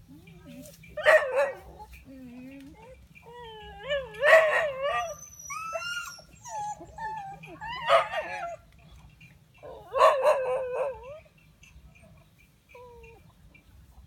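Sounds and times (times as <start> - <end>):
dogs yelping and whining: 0.5 - 8.7, 9.6 - 11.4, 12.0 - 13.4.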